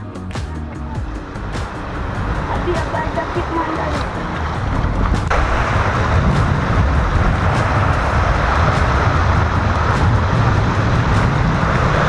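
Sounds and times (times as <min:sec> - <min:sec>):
surf breaking on rocks: 0:01.2 - 0:12.0.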